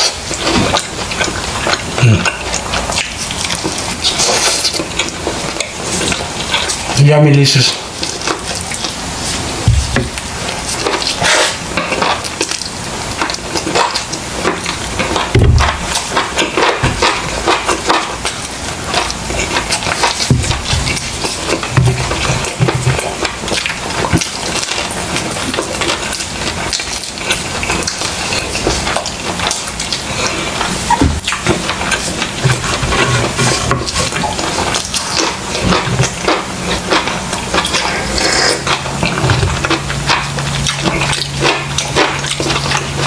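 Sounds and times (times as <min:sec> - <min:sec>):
chewing and lip-smacking: 0:00.0 - 0:43.0.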